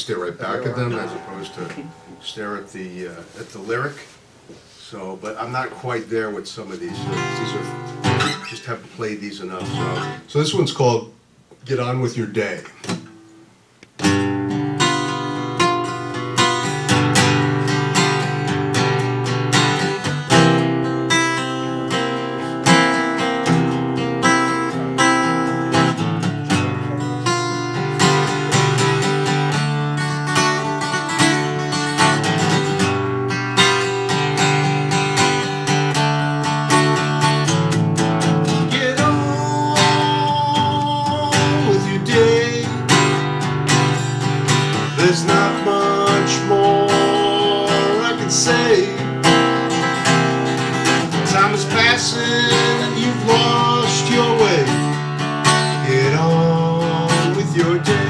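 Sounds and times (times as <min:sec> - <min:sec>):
acoustic guitar strumming: 0:00.0 - 0:04.8, 0:05.8 - 0:10.7, 0:12.8 - 0:58.0.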